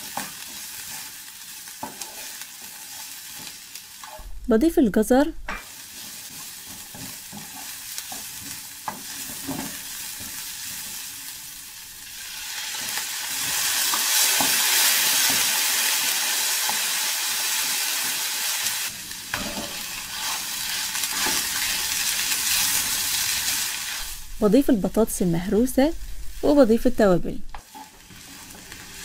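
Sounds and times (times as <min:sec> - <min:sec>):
vegetables sizzling in a frying pan: 0:00.0 - 0:04.2, 0:05.6 - 0:29.0.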